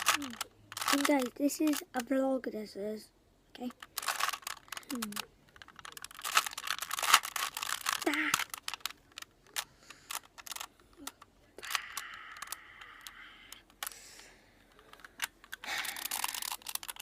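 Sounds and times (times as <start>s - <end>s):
puzzle cube plastic clicks: 0.0s - 2.2s, 3.6s - 17.0s.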